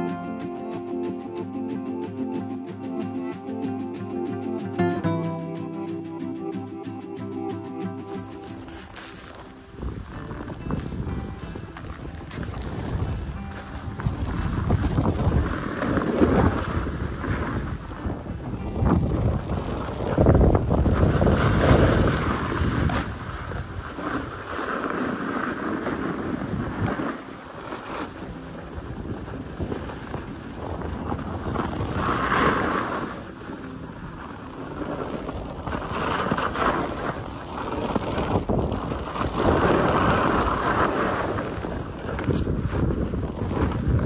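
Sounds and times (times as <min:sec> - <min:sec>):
skis scraping over snow: 0:07.9 - 0:44.0
wind buffeting microphone: 0:08.0 - 0:44.0.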